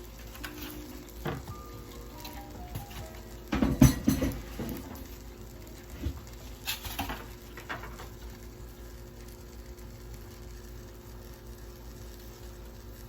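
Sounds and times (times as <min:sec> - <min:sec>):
bread frying in butter sizzling: 0:00.0 - 0:13.0.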